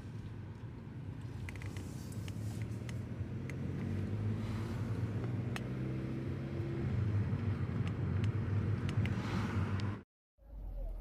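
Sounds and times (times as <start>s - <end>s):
car engine and tyre hum: 0.0s - 11.0s.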